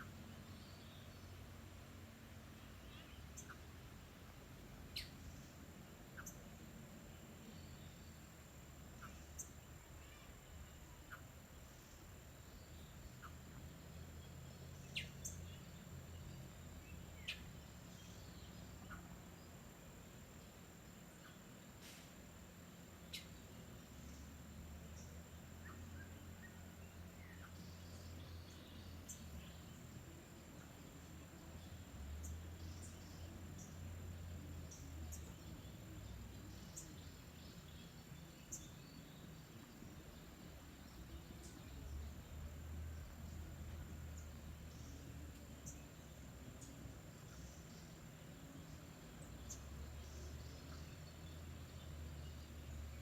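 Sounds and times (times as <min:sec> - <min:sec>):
low background rumble: 0:00.0 - 0:53.0.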